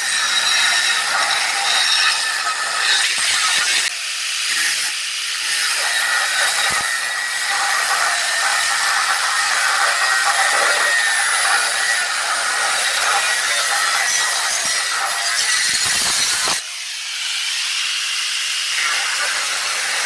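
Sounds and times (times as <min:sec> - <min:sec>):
power tool hissing cut: 0:00.0 - 0:20.0.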